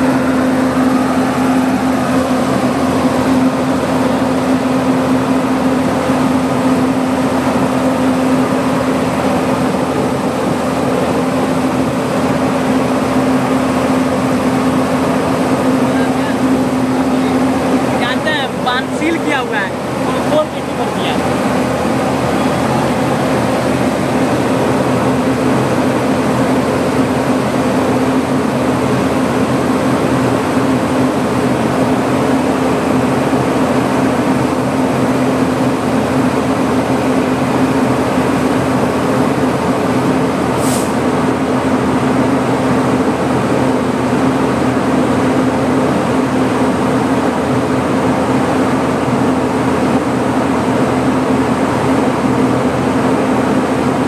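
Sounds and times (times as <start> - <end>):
locomotive machinery hum: 0.0 - 54.0.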